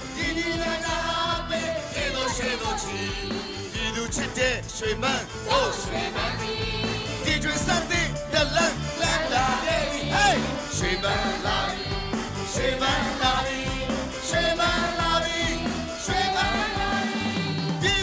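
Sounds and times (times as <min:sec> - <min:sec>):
instrumental accompaniment with beat: 0:00.0 - 0:18.0.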